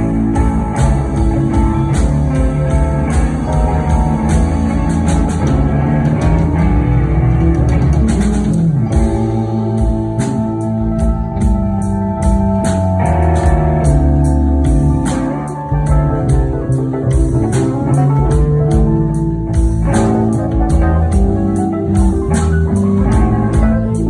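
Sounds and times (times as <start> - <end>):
bass guitar: 0.0 - 24.0
drum kit: 0.0 - 24.0
electric guitars: 0.0 - 24.0
keyboard: 0.0 - 24.0.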